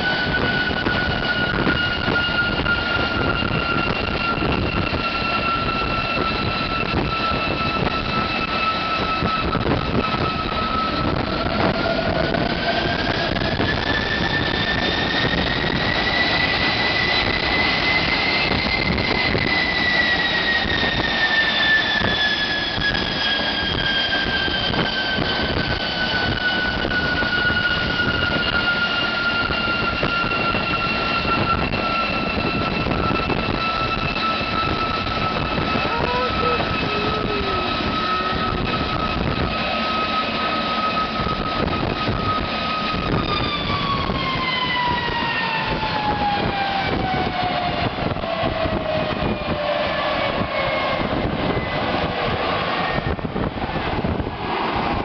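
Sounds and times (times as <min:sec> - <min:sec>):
turbojet engine roar and whine: 0:00.0 - 0:55.0.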